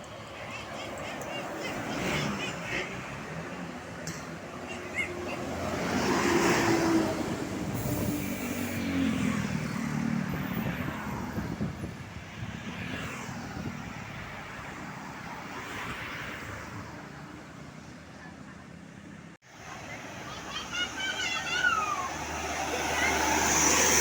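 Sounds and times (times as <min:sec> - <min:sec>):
vehicles driving past: 0:00.0 - 0:24.0.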